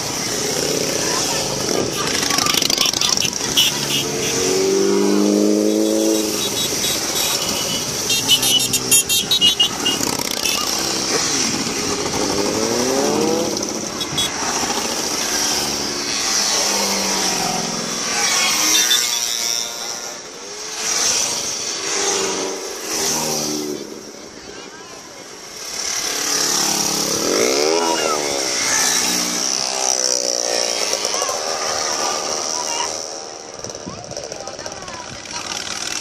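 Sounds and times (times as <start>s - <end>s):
motorcycle engine revving: 0.0s - 36.0s
motorcycles riding past: 0.0s - 36.0s.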